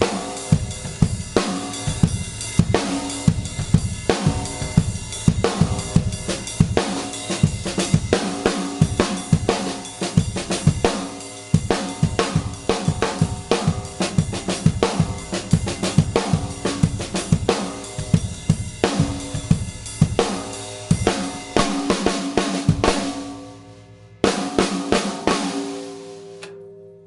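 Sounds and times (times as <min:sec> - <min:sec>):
snare drum: 0:00.0 - 0:23.3
bass drum: 0:00.0 - 0:25.5
cymbals: 0:00.0 - 0:26.6.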